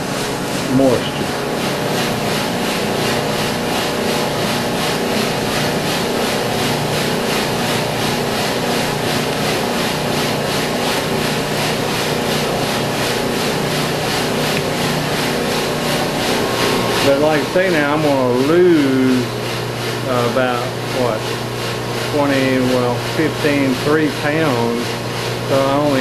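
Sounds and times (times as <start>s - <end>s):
cooling fan and motor hum: 0.0s - 26.0s.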